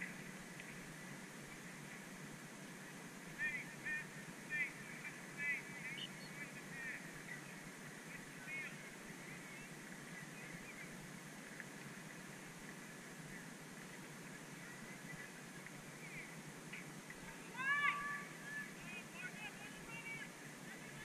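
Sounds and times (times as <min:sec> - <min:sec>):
distant birds calling: 0:03.2 - 0:21.0.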